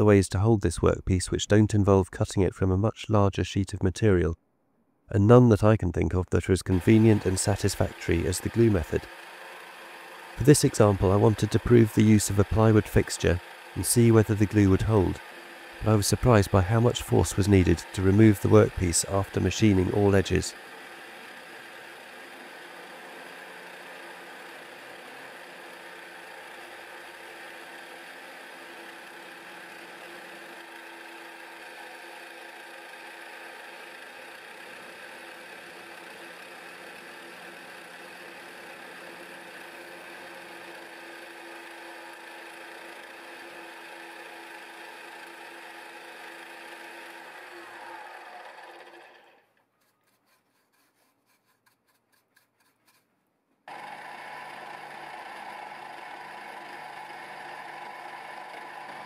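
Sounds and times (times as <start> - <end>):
milling machine cutting metal: 6.7 - 49.4, 53.7 - 59.0.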